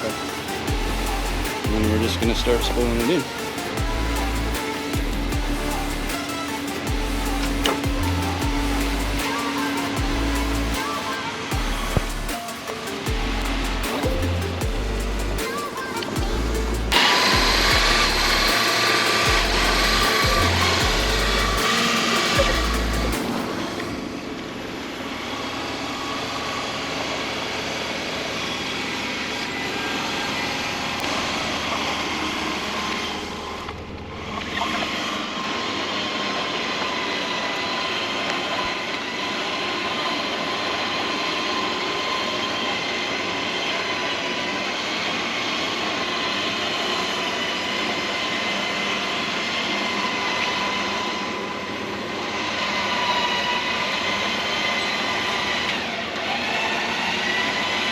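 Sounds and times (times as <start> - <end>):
electric winch whining: 0.0 - 57.9.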